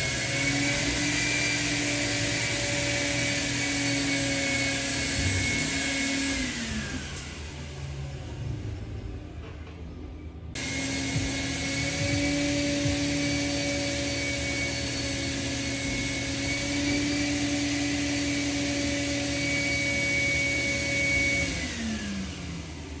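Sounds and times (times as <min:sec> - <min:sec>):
vacuum blower whining: 0:00.0 - 0:09.1, 0:10.5 - 0:23.0.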